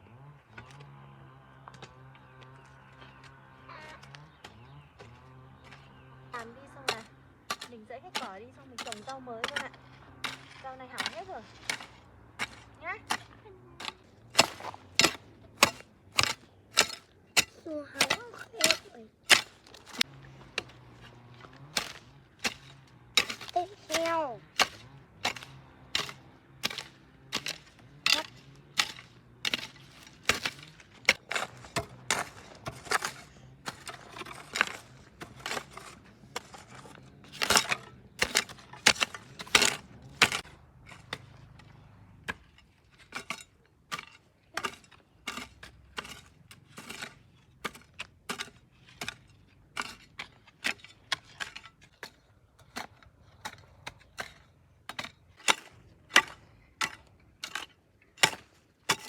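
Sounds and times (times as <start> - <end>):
hoe chopping into soil: 3.9 - 59.0.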